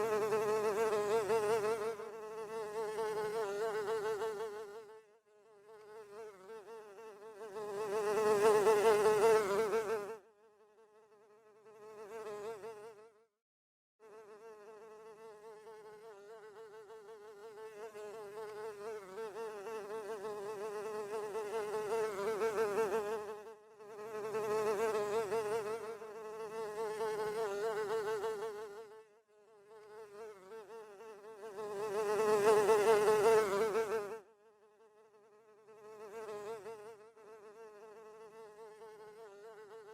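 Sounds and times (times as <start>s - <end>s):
housefly buzzing: 0.0s - 13.3s, 14.0s - 39.9s.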